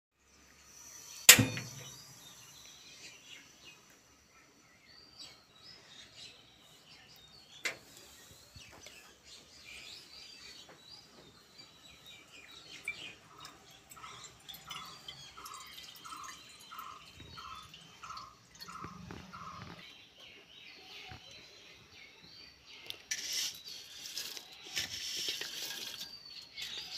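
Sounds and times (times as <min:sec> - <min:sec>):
birds chirping faintly: 0:00.2 - 0:26.9.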